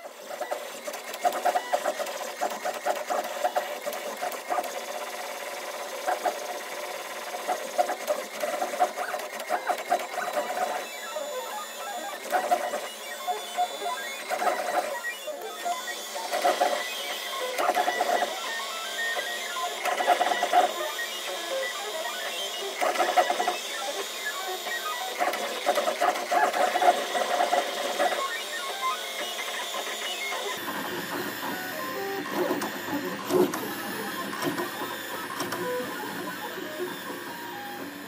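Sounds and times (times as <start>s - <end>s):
printer stepper motors whirring: 0.0s - 38.0s.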